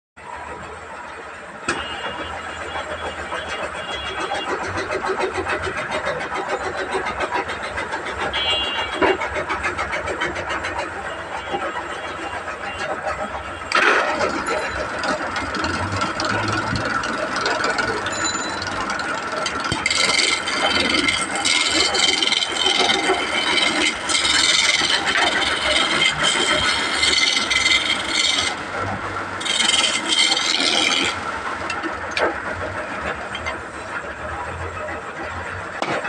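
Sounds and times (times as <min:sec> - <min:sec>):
sawmill machine hum: 0:00.2 - 0:36.0.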